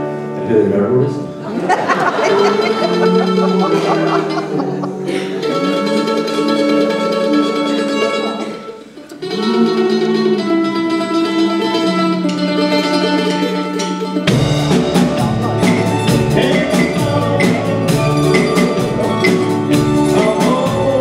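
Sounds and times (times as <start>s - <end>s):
slow electric guitar band music: 0.0s - 21.0s.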